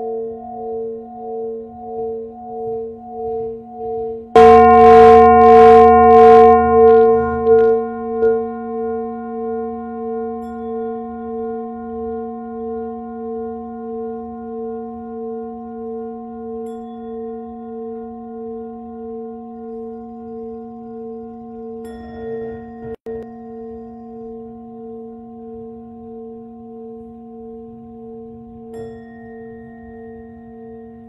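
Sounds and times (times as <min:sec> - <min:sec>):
singing bowl ringing: 0:00.0 - 0:31.0.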